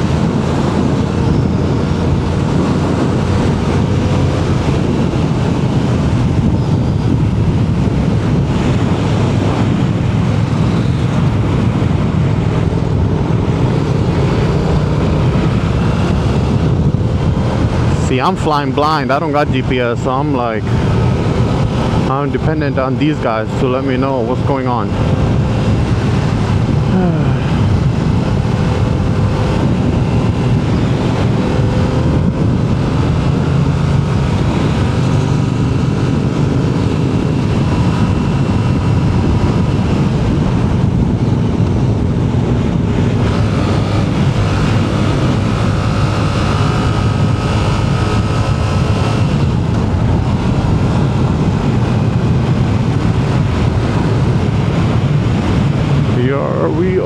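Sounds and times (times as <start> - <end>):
motorcycle engine running: 0.0 - 56.8
wind rushing over microphone: 0.0 - 57.0.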